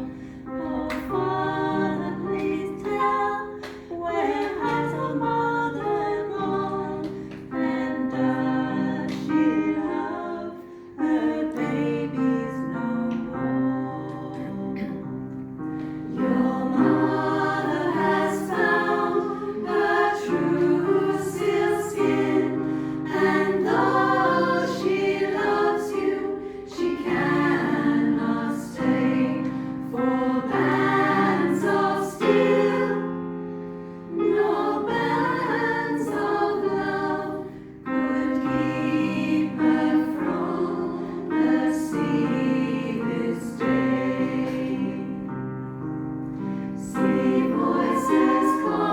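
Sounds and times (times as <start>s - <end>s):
choir singing in harmony: 0.0s - 48.9s.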